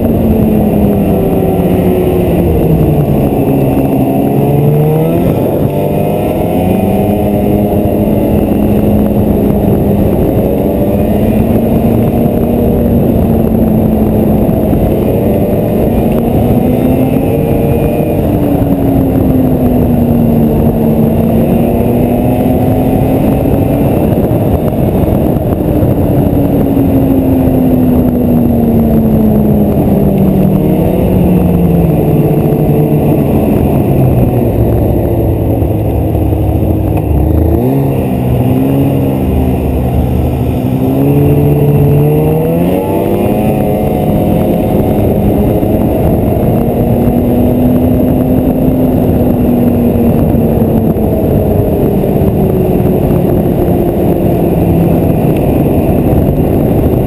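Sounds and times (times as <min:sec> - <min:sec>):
snowmobile engine running: 0:00.0 - 0:57.0
steady rushing noise: 0:00.0 - 0:57.0.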